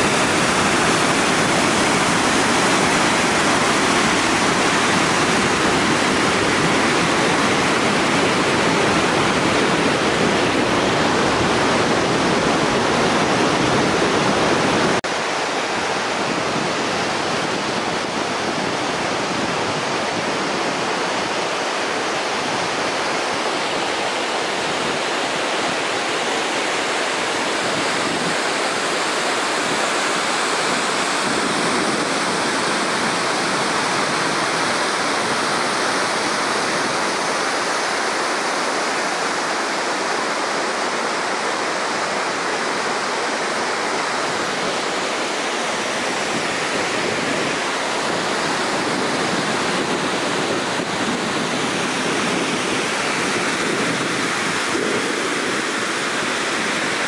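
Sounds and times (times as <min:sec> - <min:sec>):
waterfall rushing over rocks: 0:00.0 - 0:57.0.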